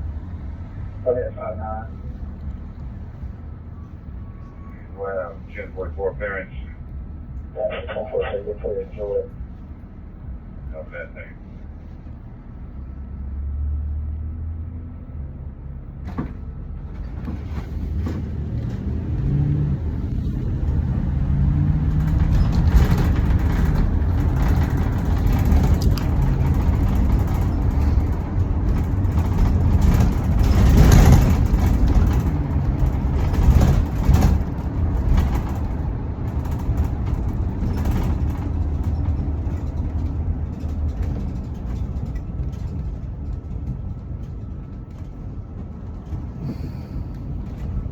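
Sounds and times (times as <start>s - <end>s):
road traffic passing: 0.0s - 47.9s.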